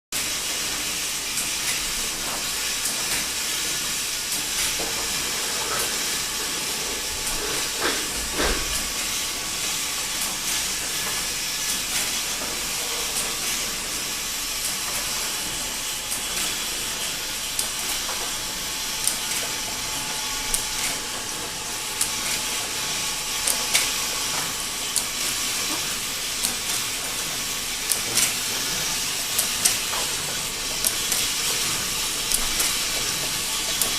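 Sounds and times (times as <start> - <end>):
filling machine hissing: 0.2 - 33.9
sharp machine clicks: 0.4 - 33.9.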